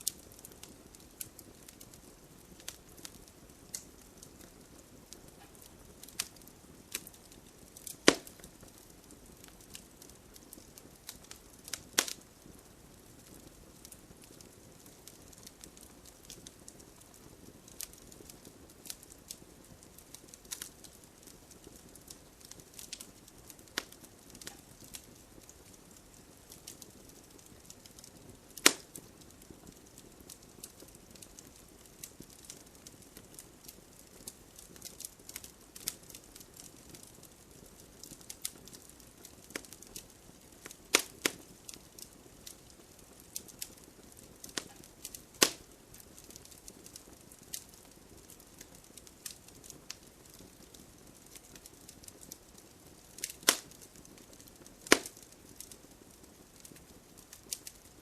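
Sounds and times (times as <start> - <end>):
burning wood popping: 0.0 - 58.0
campfire crackling: 0.0 - 58.0.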